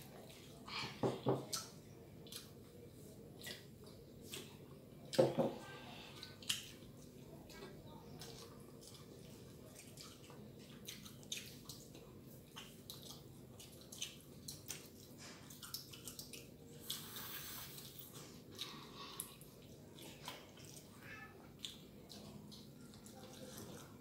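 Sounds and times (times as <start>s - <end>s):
chewing with mouth clicks: 0.0s - 5.2s, 6.2s - 24.0s.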